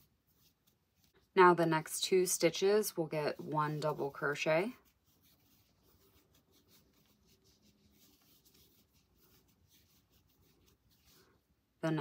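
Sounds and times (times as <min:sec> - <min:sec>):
yarn scratching and rustling: 0:00.0 - 0:12.0.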